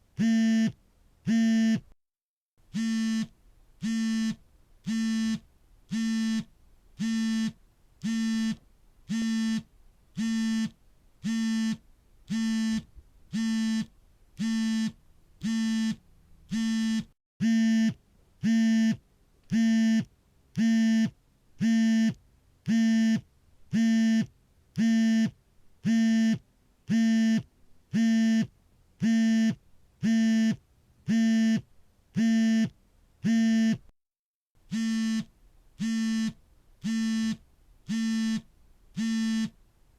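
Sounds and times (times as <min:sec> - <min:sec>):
phone vibration buzzing: 0:02.7 - 0:23.2, 0:23.8 - 0:33.9, 0:34.7 - 0:39.6.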